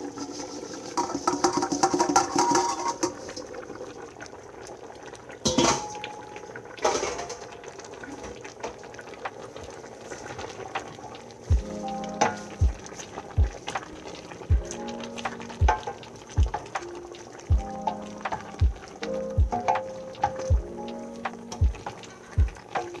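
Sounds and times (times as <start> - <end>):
soup bubbling in a pot: 0.0 - 23.0.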